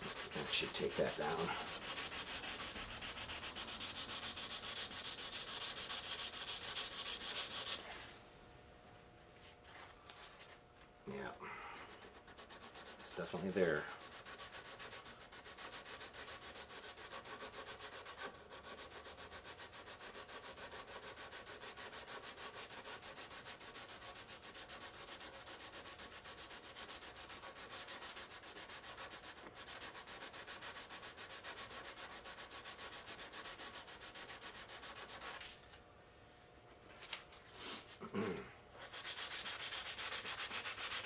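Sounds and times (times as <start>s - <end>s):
sandpaper scratching plastic: 0.0s - 8.1s, 11.9s - 35.6s, 38.8s - 41.0s.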